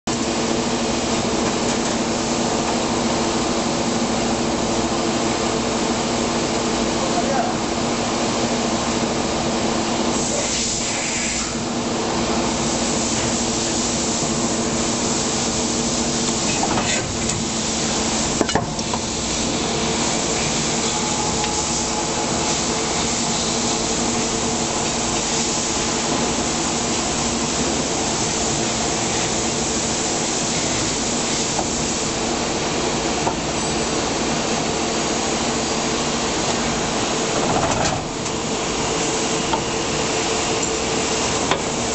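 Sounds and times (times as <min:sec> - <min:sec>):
injection molding machine hum: 0:00.1 - 0:41.9.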